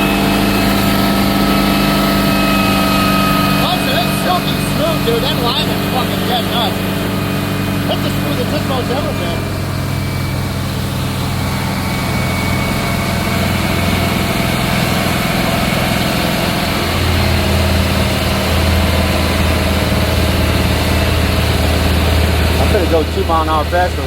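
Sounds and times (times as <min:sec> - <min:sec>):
marine engine running: 0:00.0 - 0:24.0.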